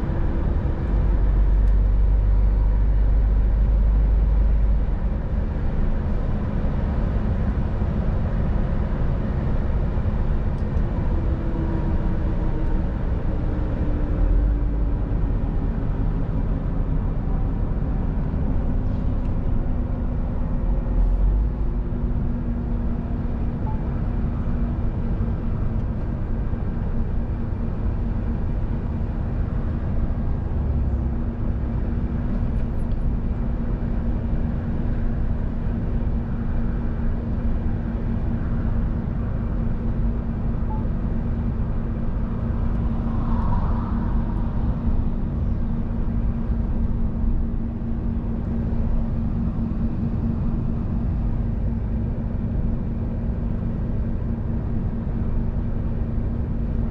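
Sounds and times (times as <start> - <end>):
truck engine drone: 0.0 - 56.9.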